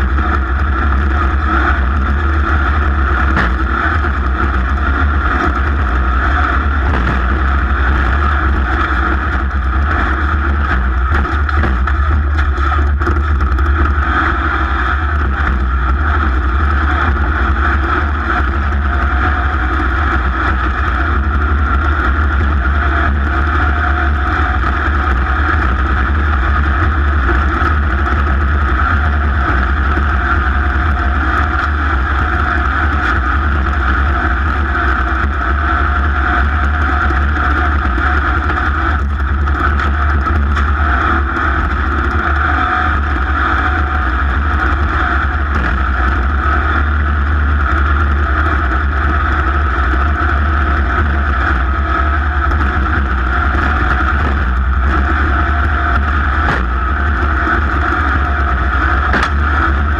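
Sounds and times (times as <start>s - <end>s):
racing engine droning: 0.0s - 59.9s.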